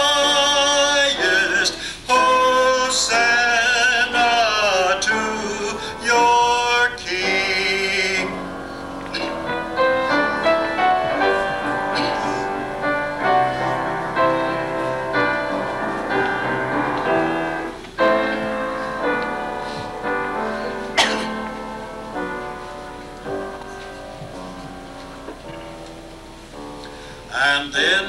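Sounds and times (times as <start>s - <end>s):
piano accompaniment: 0.0s - 28.0s.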